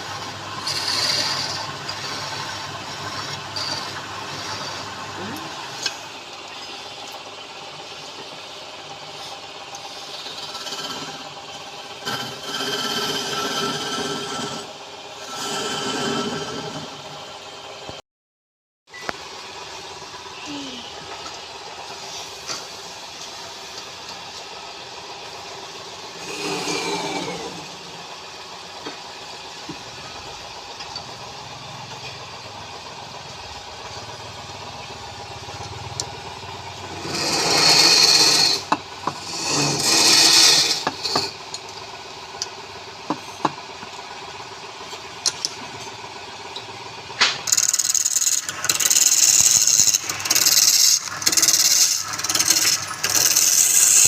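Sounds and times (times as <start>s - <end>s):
lathe motor hum: 0.0s - 18.0s, 21.0s - 54.0s
tool cutting spinning wood: 0.0s - 18.0s, 20.2s - 54.0s.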